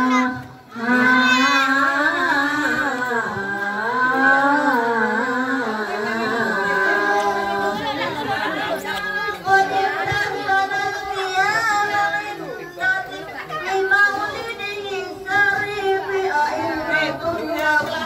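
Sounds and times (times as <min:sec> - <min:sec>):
voices chanting without instruments: 0:00.0 - 0:18.0.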